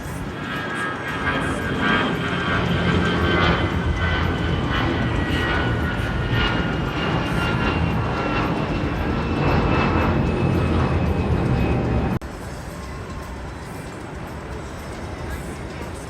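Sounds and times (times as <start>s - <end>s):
jet engines passing: 0.0s - 16.0s.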